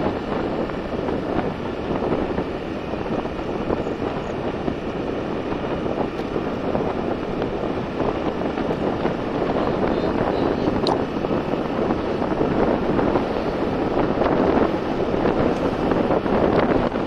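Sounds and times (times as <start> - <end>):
moving vehicle: 0.0 - 17.0
wind rushing over microphone: 0.0 - 17.0.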